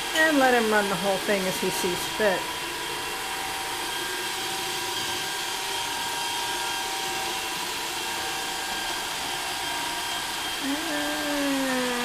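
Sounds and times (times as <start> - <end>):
robot vacuum whirring: 0.3 - 12.0.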